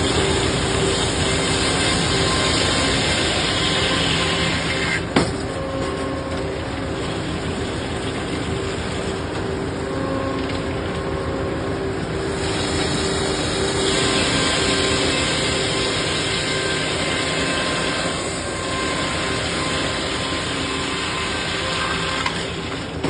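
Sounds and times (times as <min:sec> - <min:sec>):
wood-cutting machine drone: 0:00.0 - 0:23.0.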